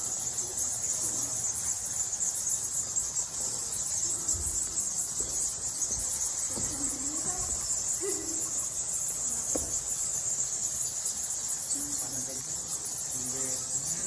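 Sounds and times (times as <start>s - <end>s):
bats chittering: 0.0s - 14.0s.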